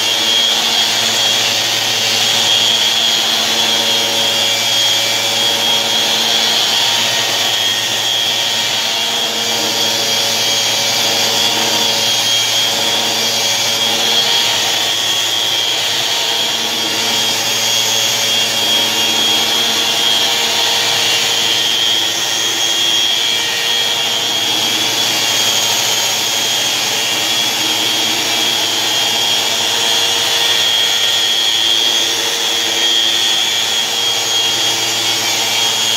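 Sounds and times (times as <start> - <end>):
electric sander on wood: 0.0 - 35.9.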